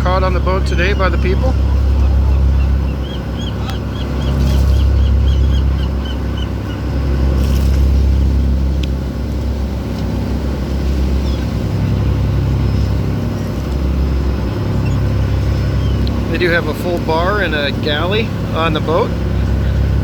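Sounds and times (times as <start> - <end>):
boat engine rumbling: 0.0 - 20.0.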